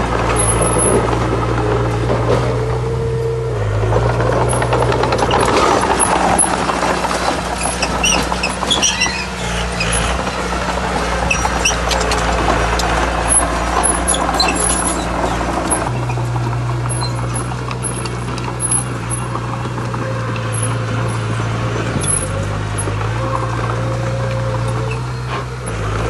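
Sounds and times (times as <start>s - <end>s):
diesel machinery engine under load: 0.0s - 26.0s
machinery clattering: 0.0s - 26.0s.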